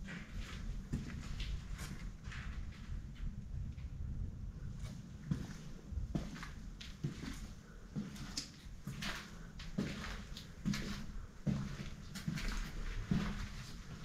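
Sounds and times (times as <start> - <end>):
slow footsteps in a hallway: 0.0 - 14.0.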